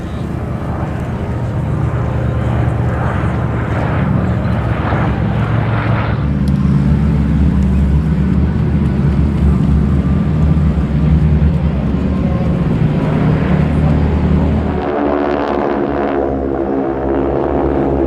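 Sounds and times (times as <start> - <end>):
propeller aircraft engine drone: 0.0 - 18.0.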